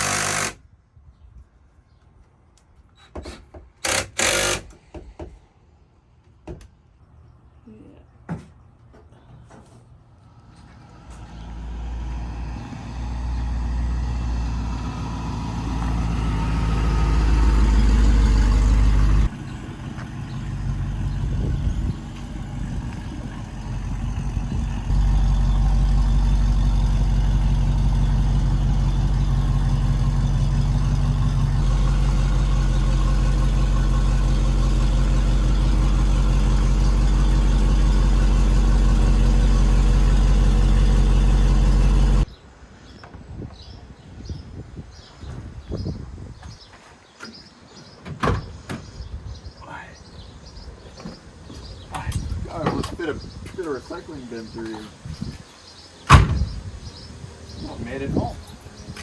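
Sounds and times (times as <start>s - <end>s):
vehicle engine and road rumble: 0.0s - 59.0s.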